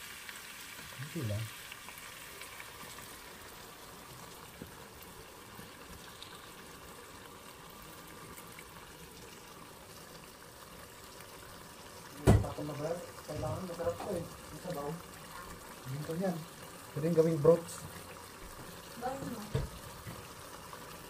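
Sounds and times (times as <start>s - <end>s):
broth being poured: 0.0s - 21.0s
broth simmering in a pan: 0.0s - 21.0s.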